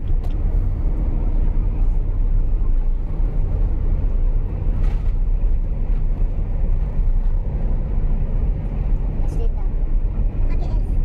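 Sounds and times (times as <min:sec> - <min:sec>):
car driving at motorway speed: 0:00.0 - 0:11.0.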